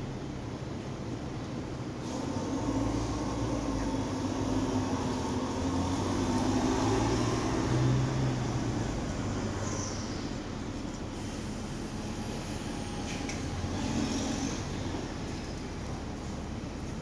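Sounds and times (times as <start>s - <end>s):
monorail train hum and rumble: 0.0s - 17.0s.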